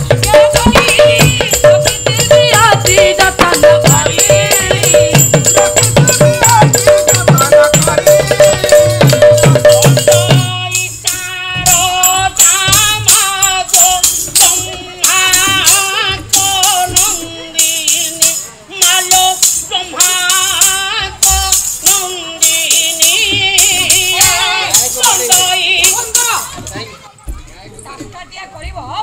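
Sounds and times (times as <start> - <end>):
drum beat: 0.0 - 18.0, 20.1 - 26.9
solo voice singing: 0.0 - 26.5
metallic jingling percussion: 0.0 - 27.0.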